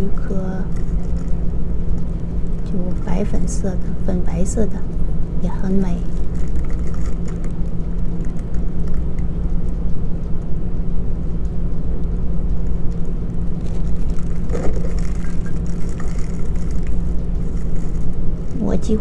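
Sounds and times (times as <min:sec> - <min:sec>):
low droning hum and rumble: 0:00.0 - 0:19.0.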